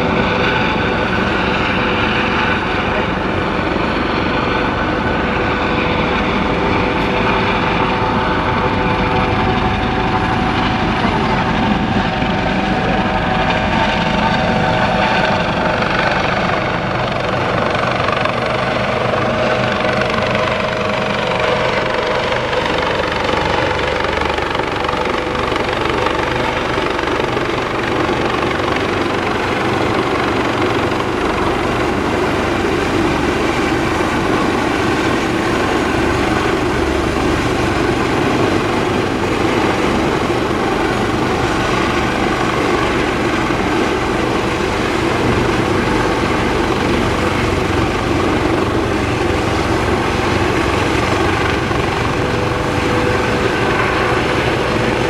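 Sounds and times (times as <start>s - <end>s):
helicopter flying: 0.0s - 55.0s.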